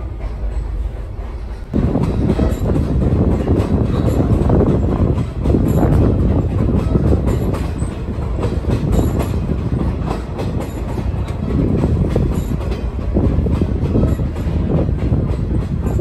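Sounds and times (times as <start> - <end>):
rail wheels rumbling: 0.0 - 16.0.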